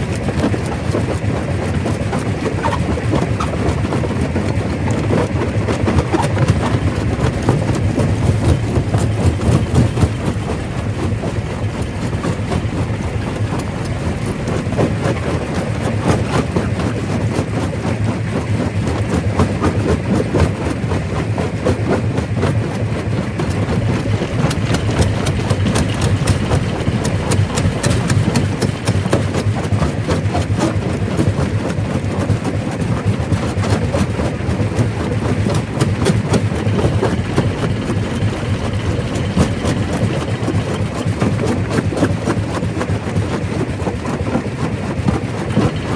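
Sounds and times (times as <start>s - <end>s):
rock crusher rumbling: 3.0s - 20.8s, 22.6s - 31.7s, 34.2s - 45.9s.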